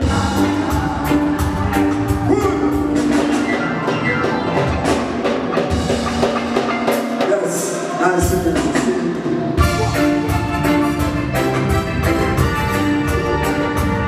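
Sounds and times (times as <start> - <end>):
live reggae band playing: 0.0 - 14.0.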